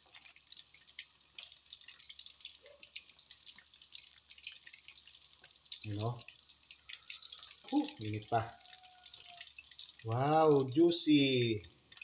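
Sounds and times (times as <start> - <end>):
hot oil crackling and popping: 0.0 - 12.0.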